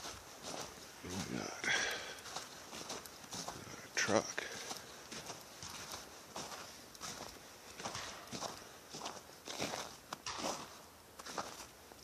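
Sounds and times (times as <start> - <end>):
footsteps crunching in snow: 0.0 - 12.0.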